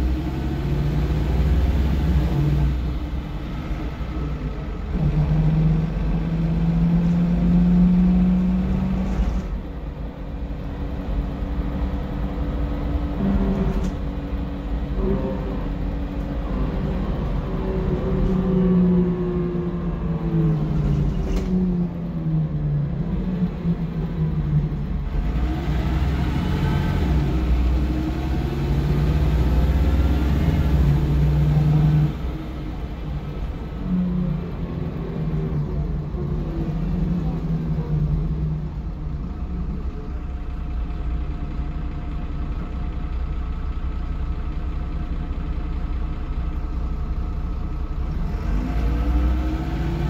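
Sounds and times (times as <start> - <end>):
bus diesel engine accelerating: 0.0 - 50.0.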